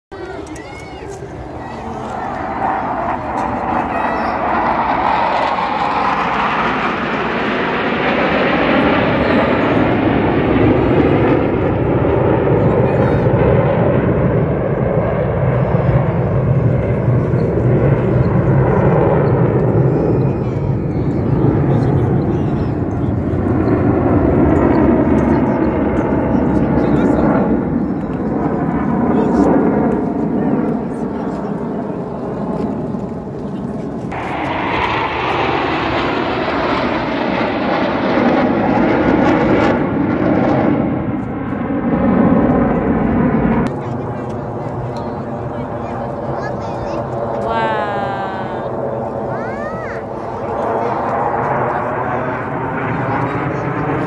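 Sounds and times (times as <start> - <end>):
jet aircraft flying past: 0.1 - 54.0.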